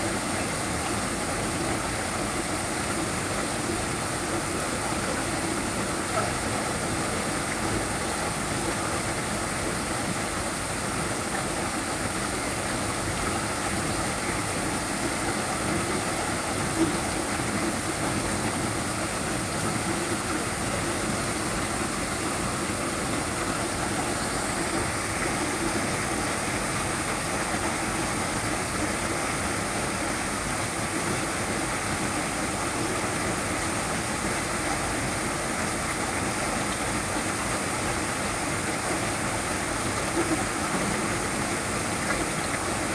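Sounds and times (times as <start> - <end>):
small waterfall splashing: 0.0 - 42.9.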